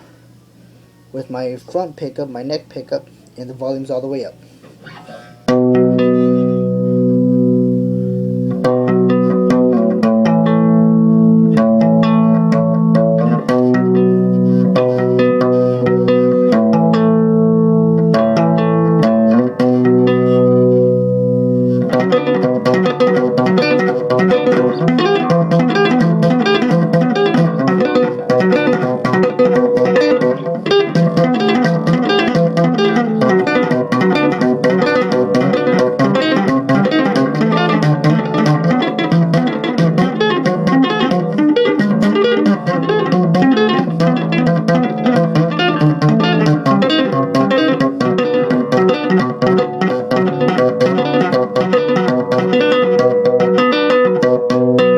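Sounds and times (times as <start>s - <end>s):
electric bass tapping: 4.6s - 54.9s.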